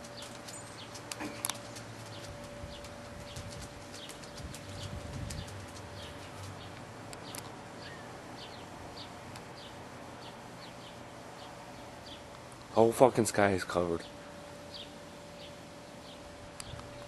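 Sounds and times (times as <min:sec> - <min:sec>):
small birds chirping: 0:00.0 - 0:12.5, 0:13.9 - 0:17.0
faint steady hum: 0:00.0 - 0:17.0.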